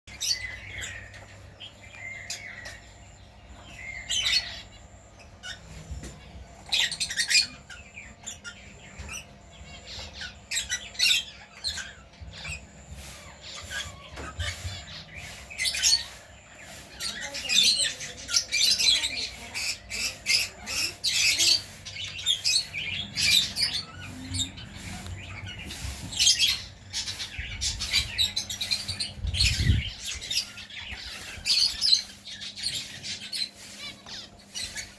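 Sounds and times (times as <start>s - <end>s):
birds chirping and squawking: 0.0s - 34.9s.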